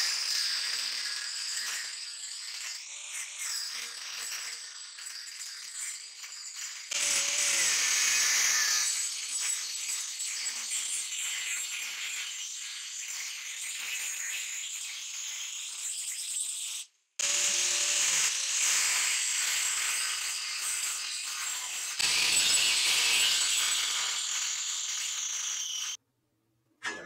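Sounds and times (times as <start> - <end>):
angle grinder cutting steel: 0.0 - 26.0.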